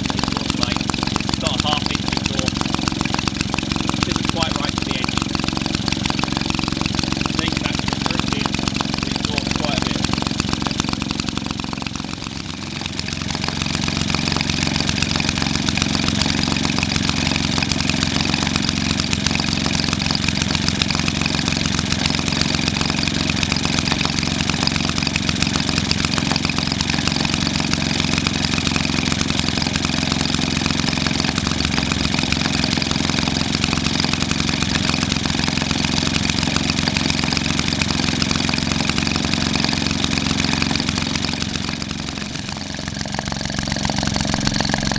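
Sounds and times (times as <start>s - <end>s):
two-stroke engine running: 0.0s - 44.9s.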